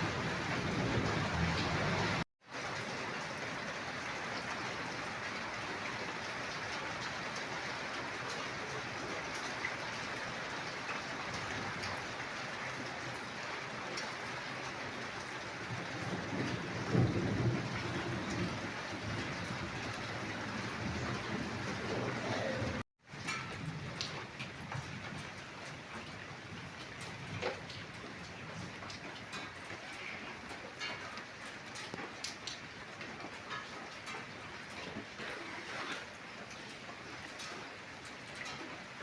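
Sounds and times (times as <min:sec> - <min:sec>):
heavy rain splashing: 0:00.0 - 0:39.0.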